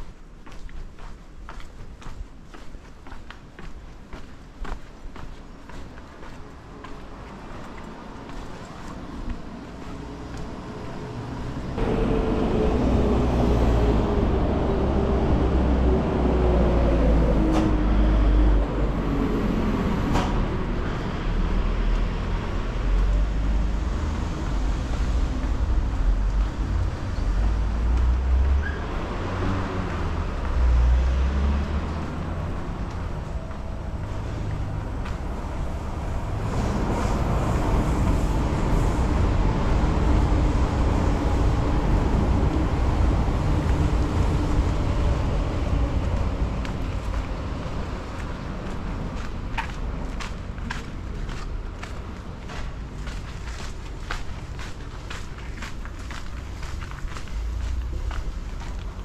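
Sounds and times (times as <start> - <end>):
train rumbling on viaduct: 5.8 - 59.0.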